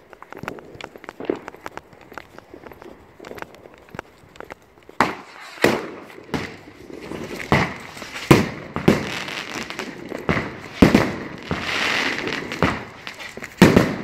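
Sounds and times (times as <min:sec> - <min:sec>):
fireworks and firecrackers exploding: 0:00.0 - 0:14.0.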